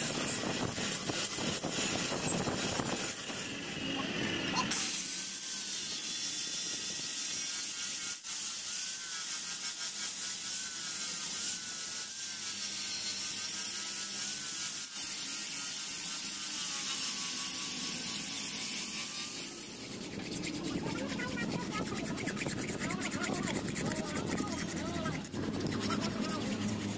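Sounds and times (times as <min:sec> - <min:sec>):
angle grinder grinding metal: 0:00.0 - 0:26.9.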